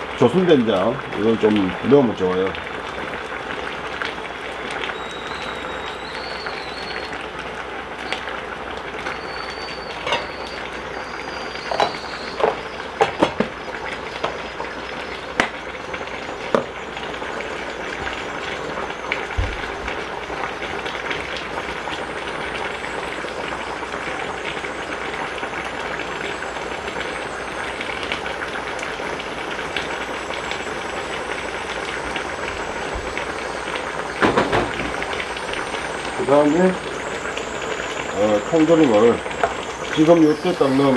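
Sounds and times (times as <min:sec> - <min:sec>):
stew boiling in a pot: 0:00.0 - 0:40.9.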